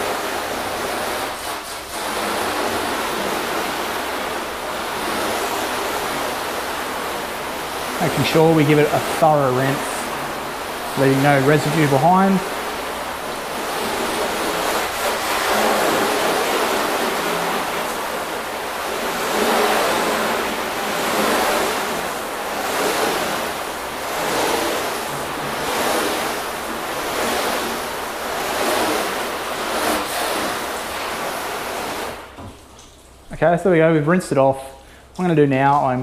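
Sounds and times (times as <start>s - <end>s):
hose spray hissing on panel: 0.0s - 32.6s.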